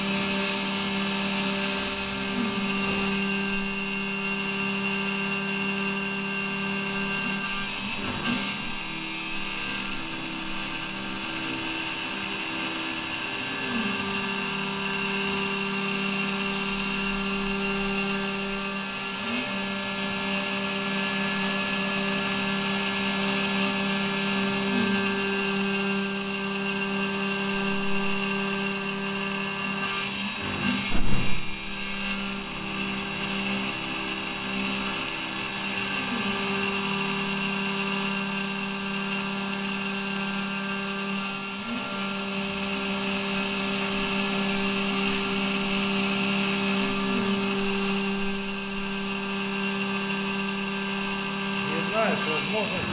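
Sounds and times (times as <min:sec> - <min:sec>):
milling machine whine: 0:00.0 - 0:52.9.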